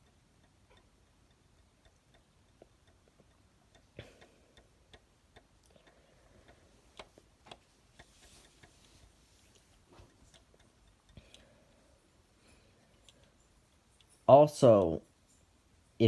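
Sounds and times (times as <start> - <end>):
faint clicks and taps: 0.0 - 14.3.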